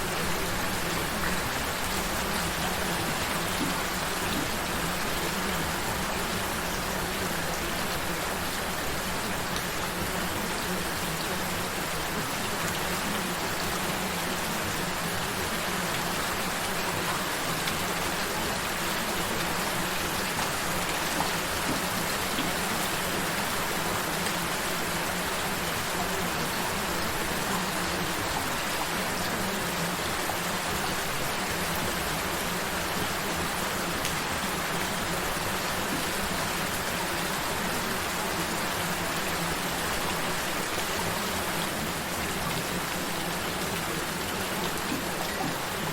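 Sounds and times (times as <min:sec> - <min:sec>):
gentle rain falling: 0:00.0 - 0:45.9.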